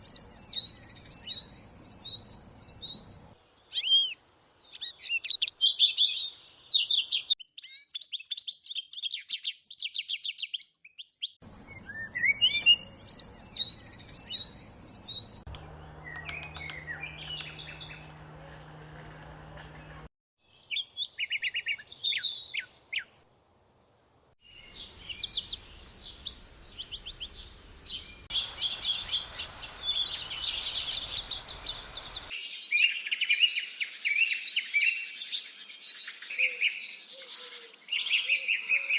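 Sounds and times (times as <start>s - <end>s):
songbirds chirping: 0.0s - 32.7s.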